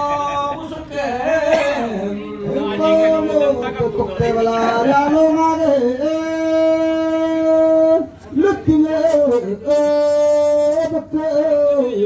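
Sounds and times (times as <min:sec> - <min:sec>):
man singing a chant: 0:00.0 - 0:12.0.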